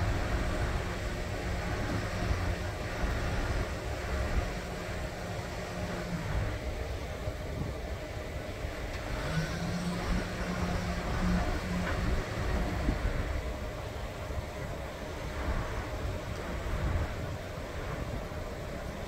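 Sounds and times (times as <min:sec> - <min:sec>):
low engine hum: 0:00.0 - 0:19.0
road traffic rumble: 0:00.0 - 0:19.0.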